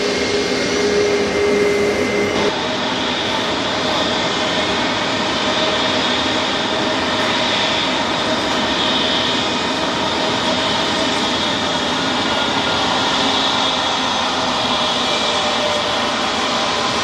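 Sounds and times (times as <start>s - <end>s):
jet engines running with whine: 0.0s - 17.0s.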